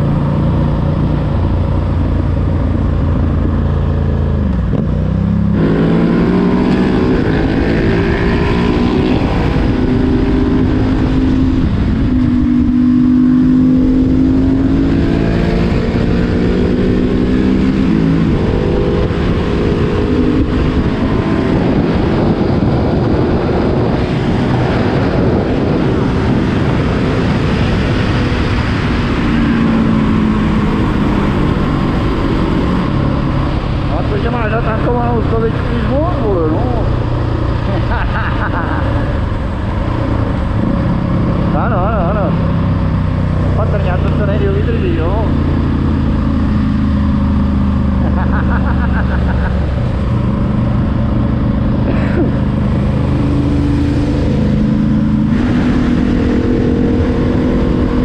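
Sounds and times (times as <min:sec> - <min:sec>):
motorcycle engine accelerating: 0:00.0 - 0:58.0
wind rushing over microphone: 0:00.0 - 0:58.0.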